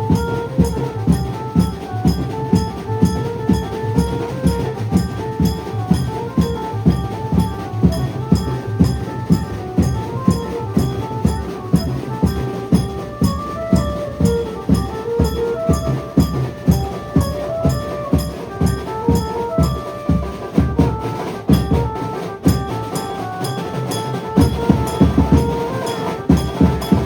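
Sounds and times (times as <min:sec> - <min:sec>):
banjo melody: 0:00.0 - 0:27.0
fast loud drum beat: 0:00.0 - 0:27.0.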